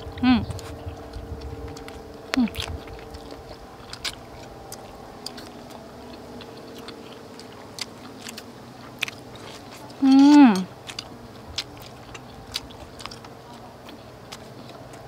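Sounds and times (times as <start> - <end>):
faint steady hum: 0.0 - 15.0
person chewing and lip-smacking: 0.0 - 15.0.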